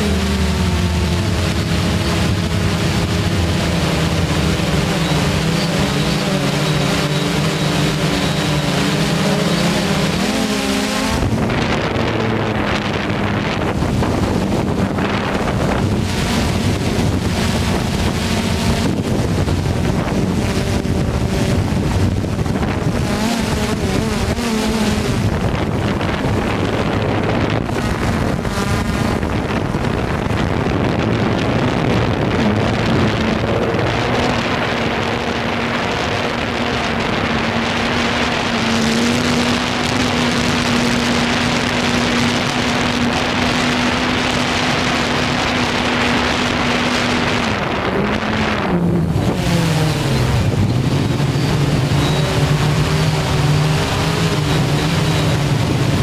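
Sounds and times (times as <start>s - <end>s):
drone motors and propellers humming: 0.0s - 56.0s
wind on the microphone: 0.0s - 56.0s.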